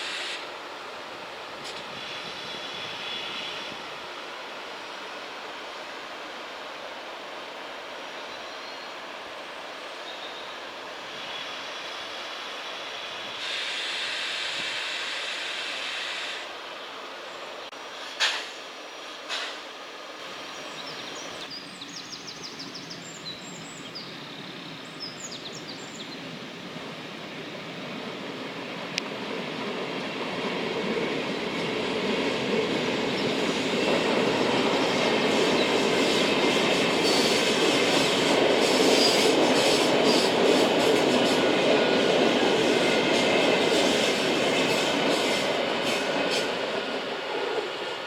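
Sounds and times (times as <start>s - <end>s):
train running past: 0.0s - 48.0s.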